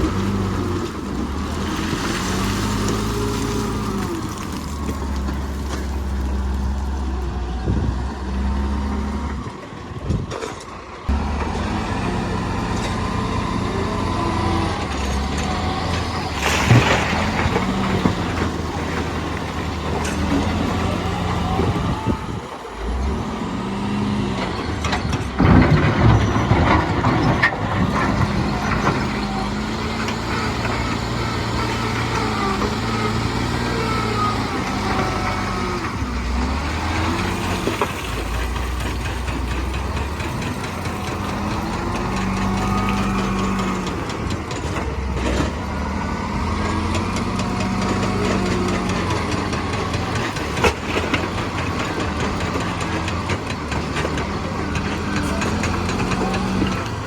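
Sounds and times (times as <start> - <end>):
diesel earthmoving machine revving: 0.0 - 57.0.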